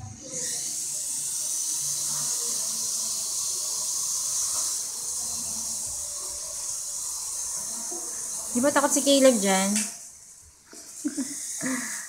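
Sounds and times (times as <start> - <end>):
small helicopter rotors hissing: 0.0 - 10.1, 10.7 - 12.0.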